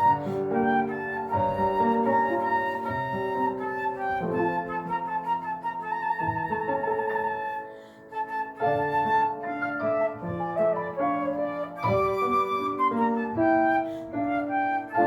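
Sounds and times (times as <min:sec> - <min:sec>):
flute melody: 0:00.0 - 0:15.0
piano accompaniment: 0:00.0 - 0:15.0.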